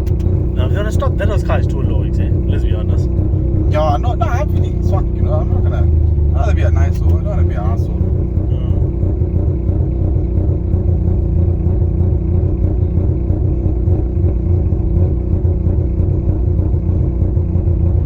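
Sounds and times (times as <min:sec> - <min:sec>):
rotary engine droning: 0:00.0 - 0:18.0.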